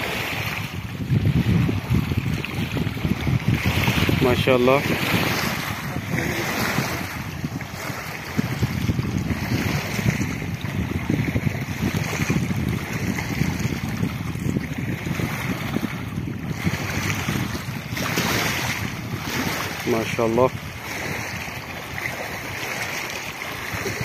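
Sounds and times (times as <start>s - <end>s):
waves lapping on pebbles: 0.0s - 24.0s
wind buffeting microphone: 0.0s - 24.0s.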